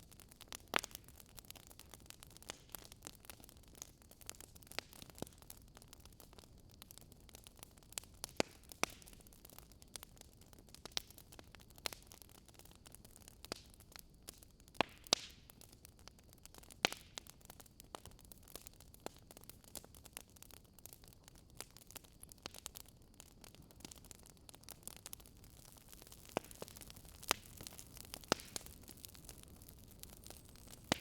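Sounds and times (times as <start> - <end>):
faint steady hiss: 0.0 - 31.0
fireplace crackling and popping: 0.0 - 31.0.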